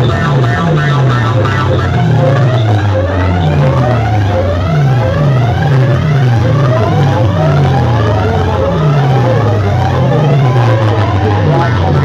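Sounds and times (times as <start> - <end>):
heavy bass notes sliding down: 0.0 - 12.0
rising siren-like sweeps: 0.0 - 12.0.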